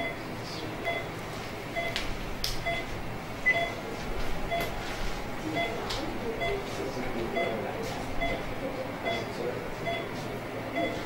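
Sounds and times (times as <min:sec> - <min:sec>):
patient monitor beeping: 0:00.0 - 0:02.0, 0:02.6 - 0:11.0.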